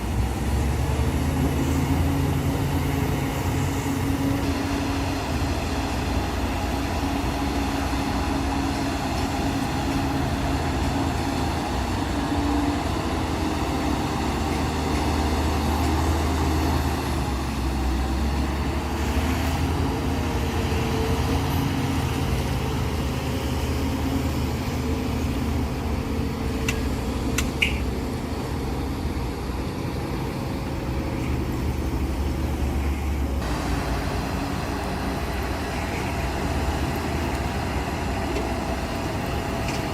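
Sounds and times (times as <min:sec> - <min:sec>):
diesel machinery engine hum: 0:00.0 - 0:39.9.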